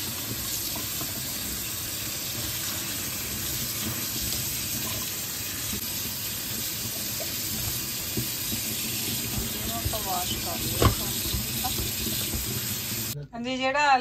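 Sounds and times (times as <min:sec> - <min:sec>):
tap water running into a sink: 0:00.0 - 0:13.2.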